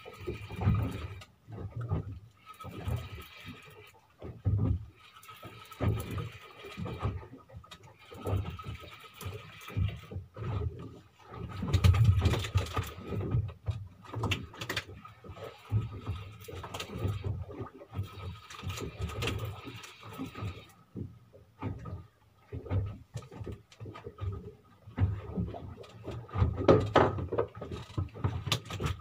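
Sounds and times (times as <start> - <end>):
knocks and clatter on boat: 0.0 - 29.0.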